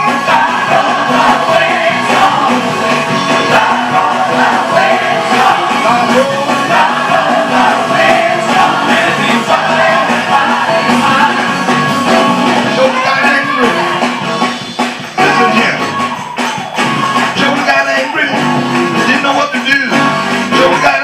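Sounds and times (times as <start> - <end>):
people singing: 0.0 - 14.6, 17.3 - 19.9, 20.5 - 21.0
band playing upbeat gospel groove: 0.0 - 21.0.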